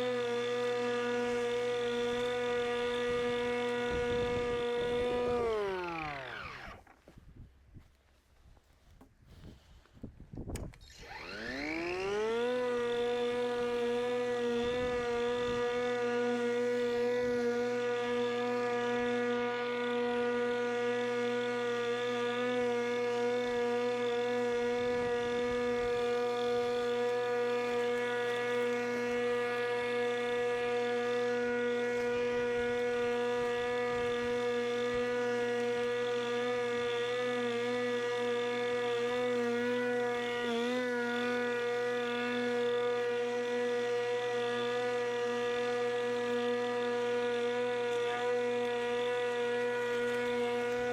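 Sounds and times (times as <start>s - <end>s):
electric lawnmower whine: 0.0s - 7.2s, 10.5s - 50.9s.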